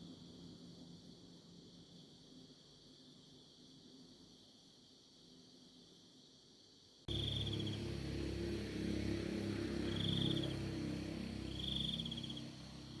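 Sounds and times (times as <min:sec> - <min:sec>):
insects chirping in trilled bursts: 0:00.0 - 0:13.0
steady outdoor background: 0:00.0 - 0:13.0.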